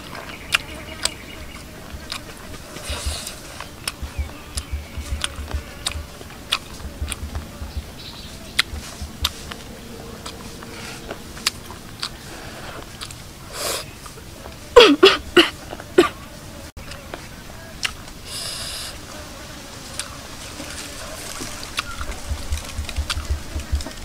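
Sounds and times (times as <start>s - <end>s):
chewing and crunching food: 0.0s - 14.7s, 16.8s - 18.5s, 19.9s - 24.0s.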